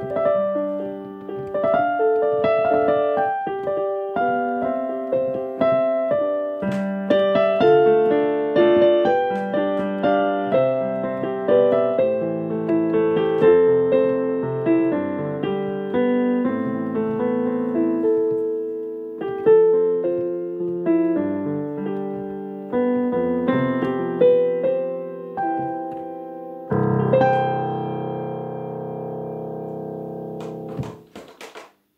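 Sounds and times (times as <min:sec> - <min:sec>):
slow solo piano melody: 0:00.0 - 0:31.6.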